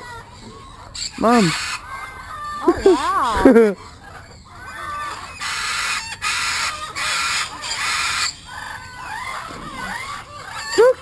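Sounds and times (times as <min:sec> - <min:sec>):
parrot screeching: 0:00.0 - 0:11.0.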